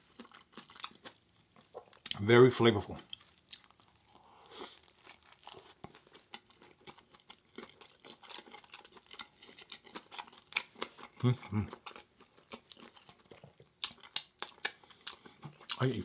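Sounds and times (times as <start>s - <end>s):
person chewing food: 0.0s - 2.2s, 3.0s - 15.9s.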